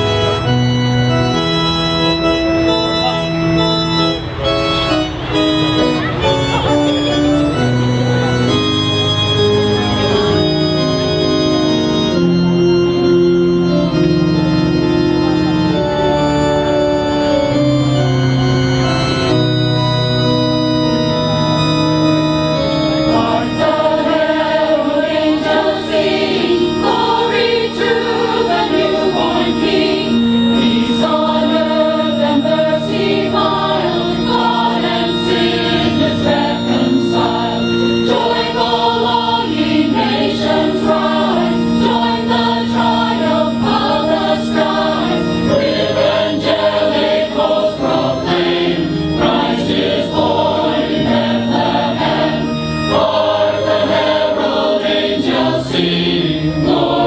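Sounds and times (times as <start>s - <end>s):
choir singing: 0.0s - 57.0s
sustained organ chords: 0.0s - 57.0s.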